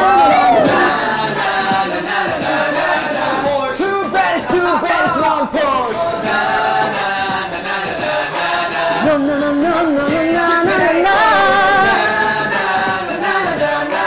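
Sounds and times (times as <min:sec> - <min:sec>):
young men singing chorus: 0:00.0 - 0:14.0.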